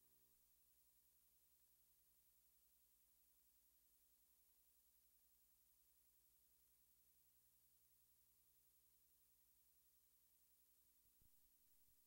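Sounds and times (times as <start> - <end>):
faint electrical hum and hiss: 0.0 - 12.0.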